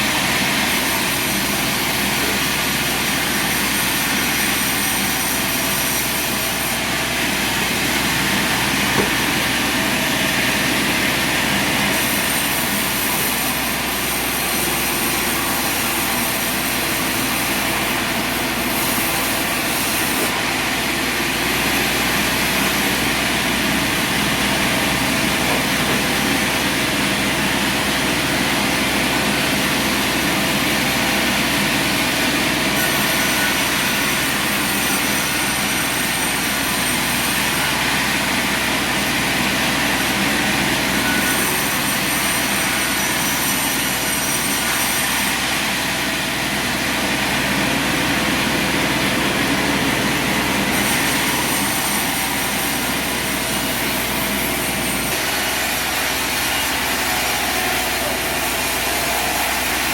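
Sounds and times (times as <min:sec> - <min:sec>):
sawmill machine drone: 0:00.0 - 0:59.9.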